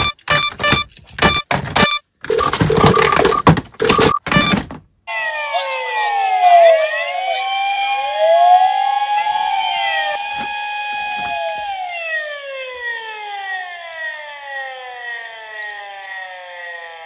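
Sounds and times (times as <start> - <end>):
toy electronic sirens wailing: 2.3 - 17.0.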